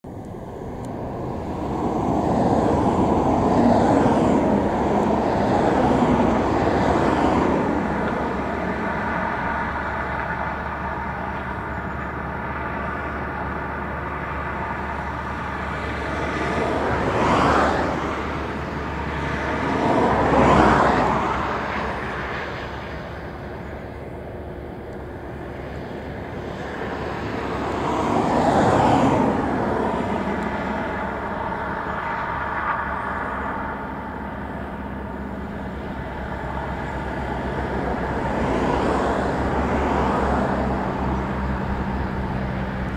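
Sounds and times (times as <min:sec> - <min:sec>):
turboprop engines droning: 0:00.0 - 0:42.9.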